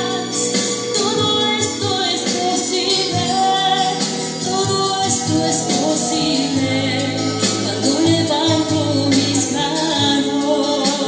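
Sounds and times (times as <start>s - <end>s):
woman singing into a microphone: 0.0s - 11.0s.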